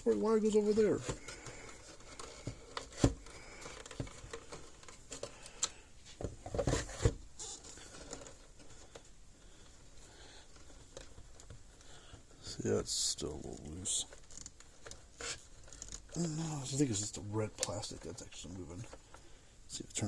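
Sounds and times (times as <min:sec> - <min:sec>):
clicks and rustles of wires and plastic: 0:00.0 - 0:20.0.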